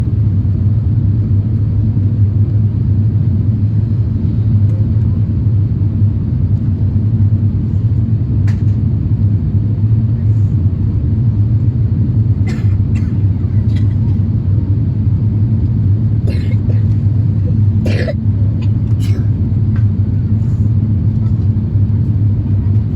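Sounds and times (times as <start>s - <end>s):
airliner cabin engine rumble: 0.0s - 22.9s.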